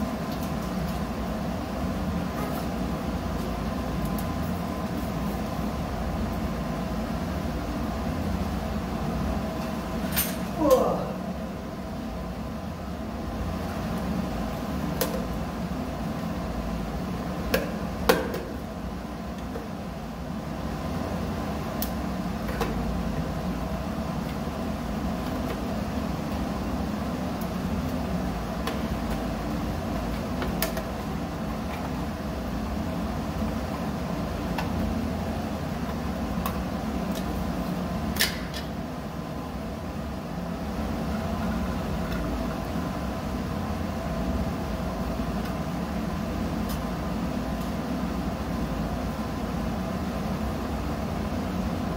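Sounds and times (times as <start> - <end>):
machinery hum: 0.0 - 51.9.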